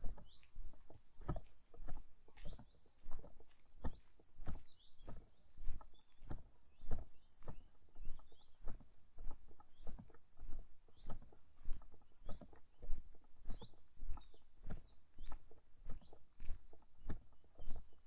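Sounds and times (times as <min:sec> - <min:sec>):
footsteps walking: 0:00.0 - 0:18.0
small birds chirping: 0:00.0 - 0:18.0.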